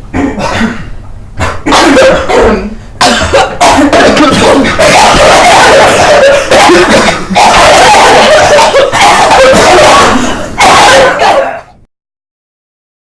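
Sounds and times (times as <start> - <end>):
person coughing harshly: 0.1 - 11.8.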